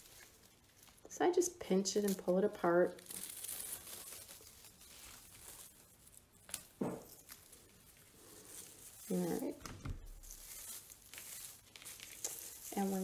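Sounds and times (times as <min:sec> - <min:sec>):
raffia rustling and tearing: 0:00.0 - 0:13.0.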